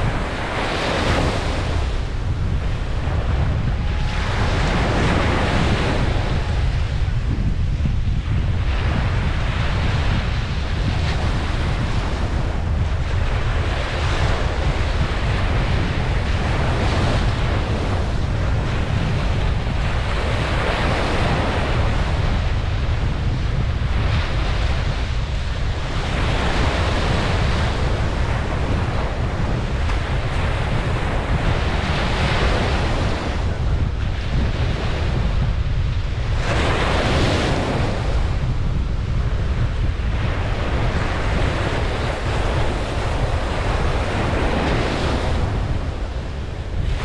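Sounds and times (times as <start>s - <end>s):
ocean waves breaking: 0.0s - 47.0s
wind buffeting microphone: 0.0s - 47.0s.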